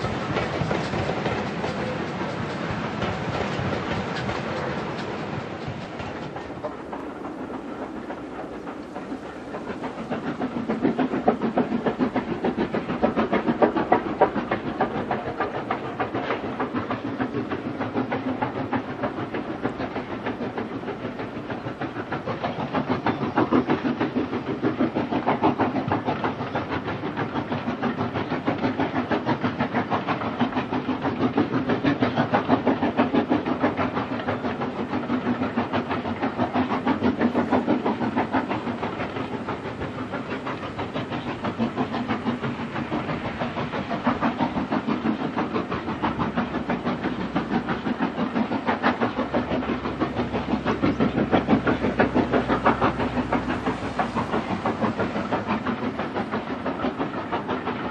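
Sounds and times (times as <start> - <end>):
steam locomotive exhaust beats: 0.0 - 57.9
train rolling on rails: 0.0 - 57.9.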